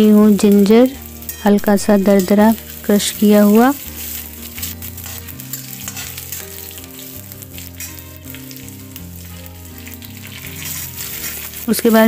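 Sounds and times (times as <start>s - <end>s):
spices sizzling in hot oil: 0.0s - 12.0s
metal spatula scraping pan: 1.9s - 12.0s.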